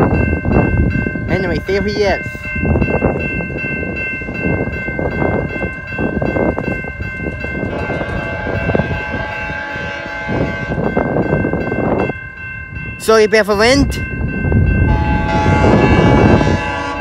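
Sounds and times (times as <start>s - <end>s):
level crossing bells ringing: 0.0s - 17.0s
train rumble: 0.0s - 17.0s.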